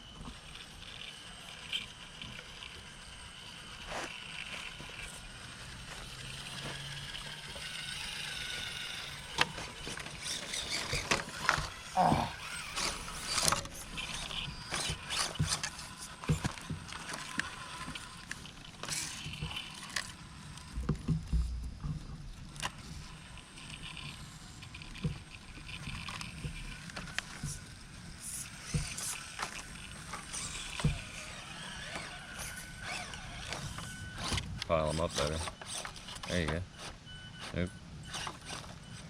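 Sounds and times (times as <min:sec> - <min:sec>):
toy truck motor whining: 0:00.0 - 0:20.8, 0:22.6 - 0:39.0.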